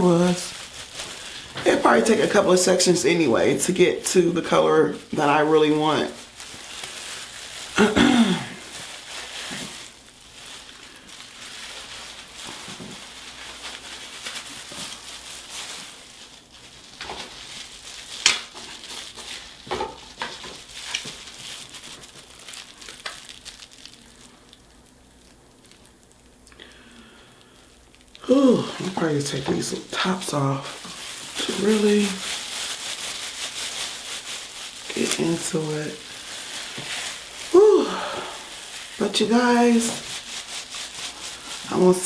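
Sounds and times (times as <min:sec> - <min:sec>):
hair squishing rustle: 0:00.0 - 0:42.0.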